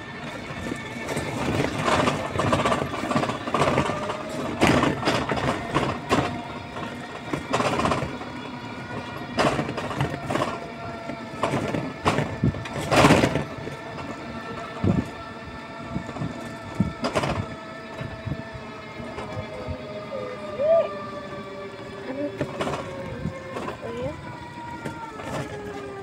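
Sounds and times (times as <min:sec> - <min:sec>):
small vehicle drive hum: 0:00.0 - 0:26.0.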